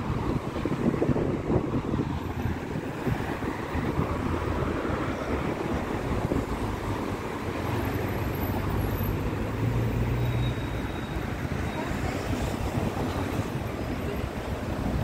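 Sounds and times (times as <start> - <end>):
congested traffic rumble: 0.0 - 15.0.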